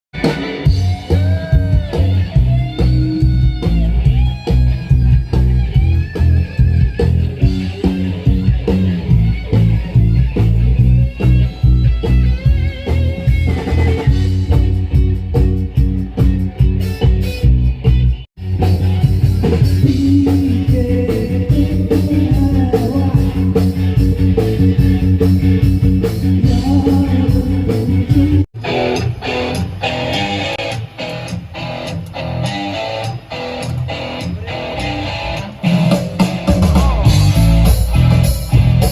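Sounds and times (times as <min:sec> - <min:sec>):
bass guitar: 0:00.2 - 0:38.9
electric lead guitar: 0:00.2 - 0:38.9
steady drum beat: 0:00.2 - 0:38.9.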